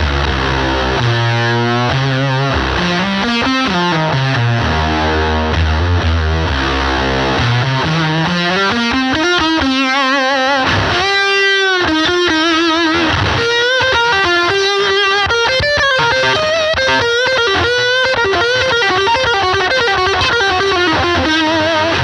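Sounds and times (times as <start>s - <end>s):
distorted electric guitar notes: 0.0s - 22.0s.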